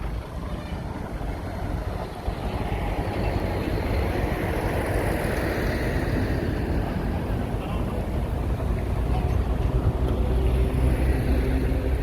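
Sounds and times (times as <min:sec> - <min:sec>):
diesel machinery engine running: 0:00.0 - 0:12.0.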